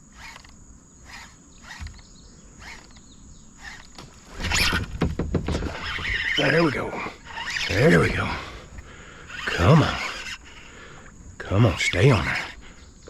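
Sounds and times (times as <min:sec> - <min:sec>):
fishing reel cranking: 0:00.0 - 0:04.9, 0:05.7 - 0:11.1, 0:11.7 - 0:12.6.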